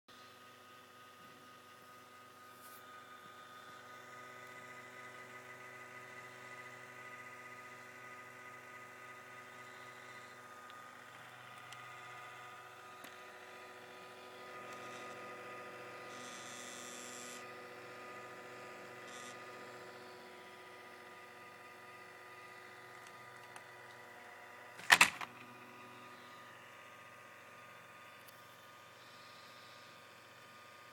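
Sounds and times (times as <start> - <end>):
laptop humming: 0.2 - 30.9.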